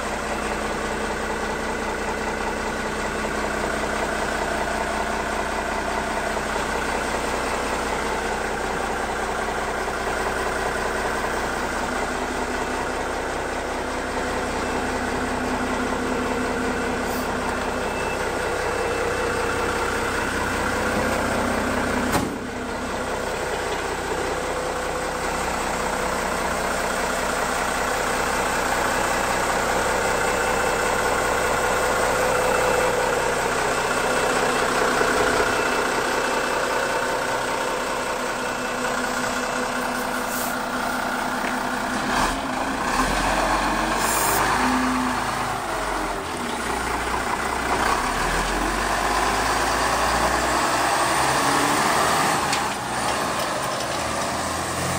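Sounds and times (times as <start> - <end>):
diesel truck engine idling: 0.0 - 54.9.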